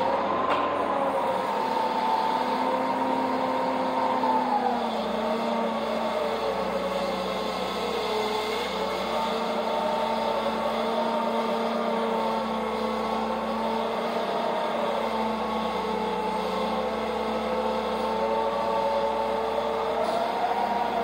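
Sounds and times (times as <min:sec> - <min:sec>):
forklift engine drone: 0:00.0 - 0:21.0.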